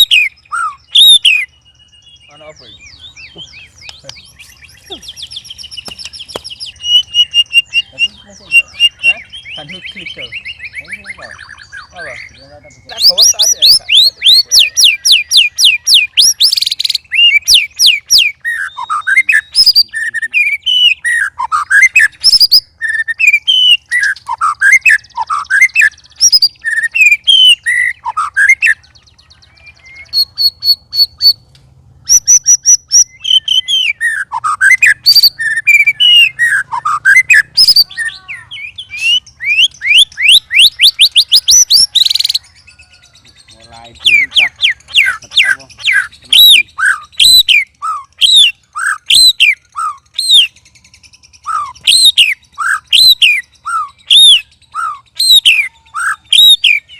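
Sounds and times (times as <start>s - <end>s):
bird singing whistled phrases: 0.0s - 31.4s, 32.1s - 56.9s.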